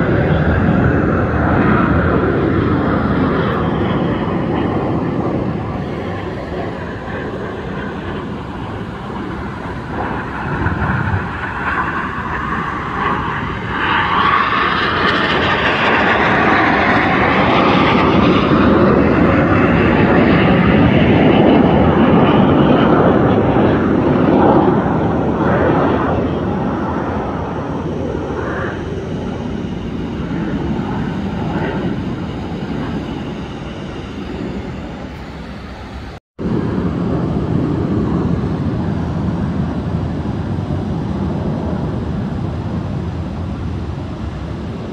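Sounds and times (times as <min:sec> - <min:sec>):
jet engine roar: 0:00.0 - 0:44.9.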